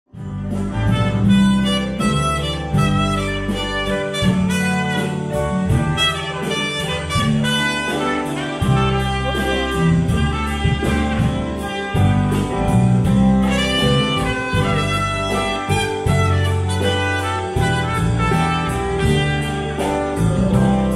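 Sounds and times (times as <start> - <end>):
bass: 0.0 - 20.9
drums: 0.1 - 20.9
electric guitar: 0.1 - 20.9
keyboard: 0.1 - 20.9.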